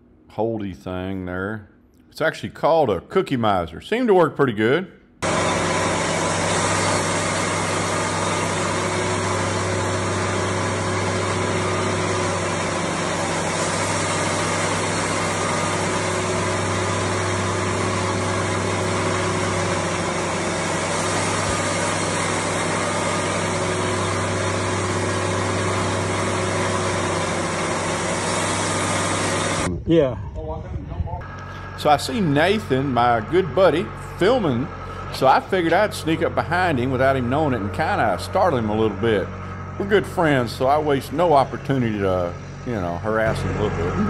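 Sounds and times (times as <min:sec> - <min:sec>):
band sawmill cutting log: 0:05.2 - 0:29.7, 0:31.2 - 0:44.0.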